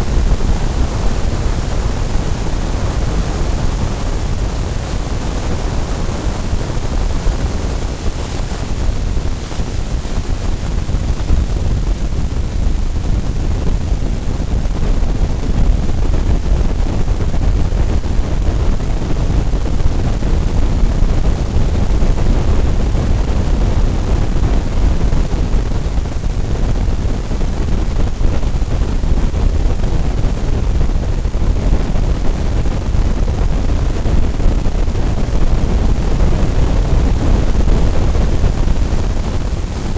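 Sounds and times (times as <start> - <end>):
road and wind noise inside car: 0.0 - 39.9.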